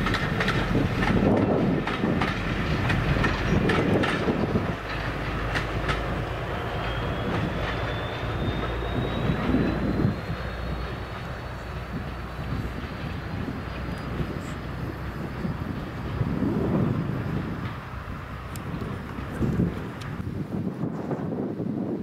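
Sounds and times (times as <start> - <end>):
train wheels clicking over rail joints: 0.0 - 20.3
train rumble: 0.0 - 22.0.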